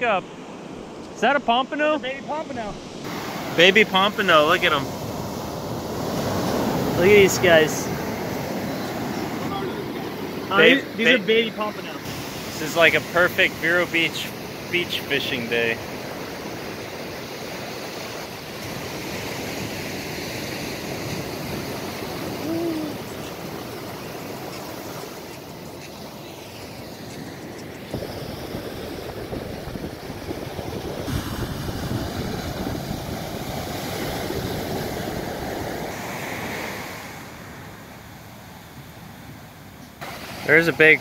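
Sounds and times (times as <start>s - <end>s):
ocean waves breaking on beach: 0.0s - 41.0s.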